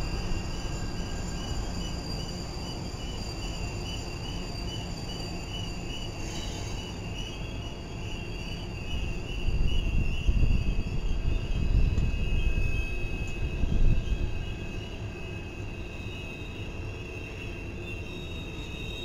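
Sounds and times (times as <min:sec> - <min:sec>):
thin high pulsing whine: 0:00.0 - 0:19.0
train wheels rumbling on rail: 0:00.0 - 0:19.0.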